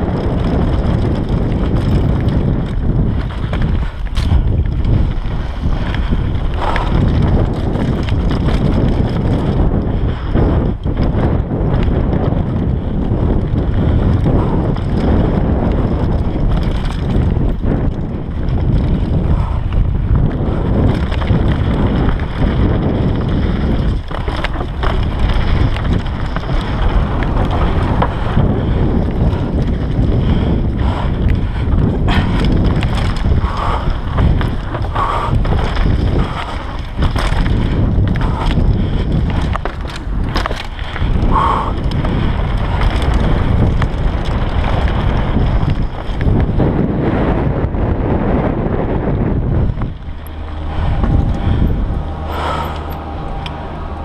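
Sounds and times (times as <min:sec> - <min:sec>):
bike knocks and clatter: 0:00.0 - 0:46.9
tyre rumble: 0:00.0 - 0:54.0
wind buffeting microphone: 0:00.0 - 0:54.0.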